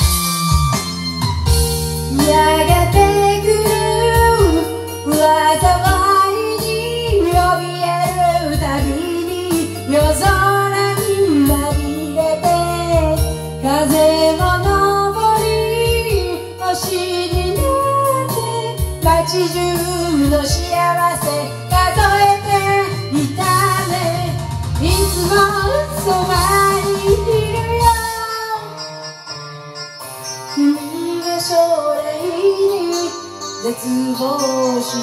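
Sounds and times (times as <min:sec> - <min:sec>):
karaoke backing track: 0:00.0 - 0:35.0
woman singing karaoke: 0:01.4 - 0:29.3, 0:30.2 - 0:35.0.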